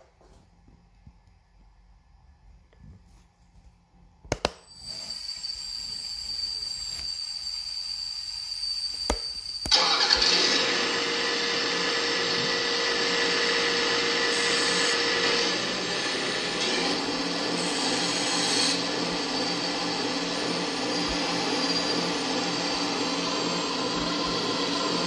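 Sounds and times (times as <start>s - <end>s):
electric pump motor whine: 4.8s - 25.0s.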